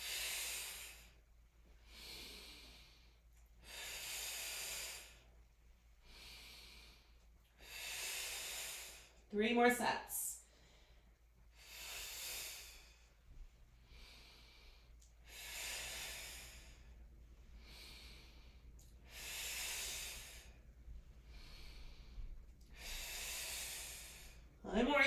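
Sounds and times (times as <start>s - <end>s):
soft breaths: 0.0s - 25.0s.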